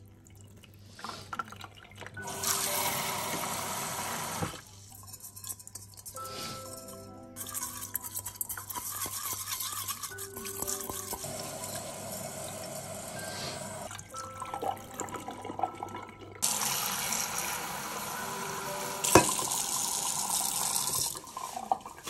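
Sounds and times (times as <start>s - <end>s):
tap water running: 0.0s - 4.7s, 8.4s - 22.0s
soft background music: 0.0s - 22.0s
water swishing in a pot: 4.3s - 22.0s.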